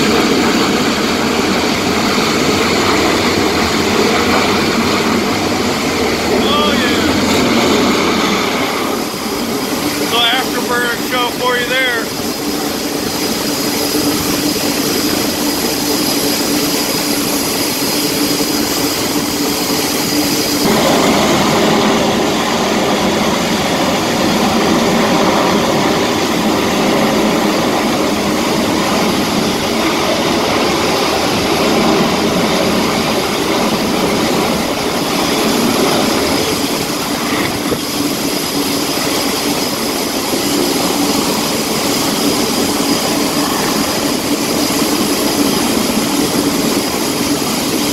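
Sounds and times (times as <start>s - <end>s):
jet engines roaring and whining: 0.0s - 47.9s.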